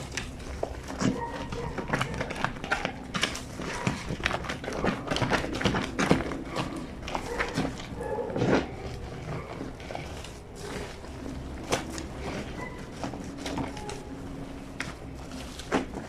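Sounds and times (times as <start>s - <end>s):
wet fabric slapping and squelching: 0.0s - 16.0s.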